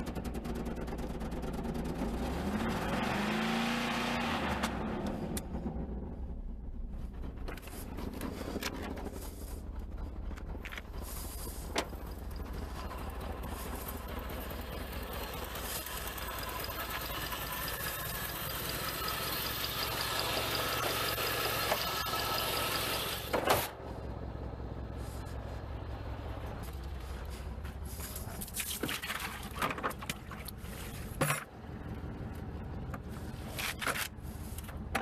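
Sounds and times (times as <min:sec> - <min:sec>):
car engine revving: 0:00.0 - 0:28.4.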